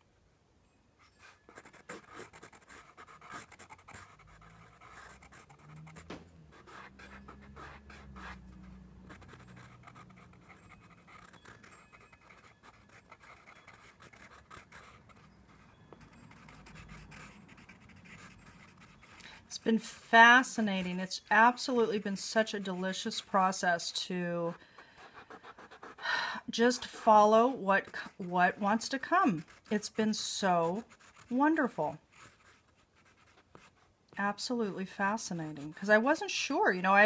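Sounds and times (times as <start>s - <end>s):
pencil scratching on paper: 1.0s - 36.8s.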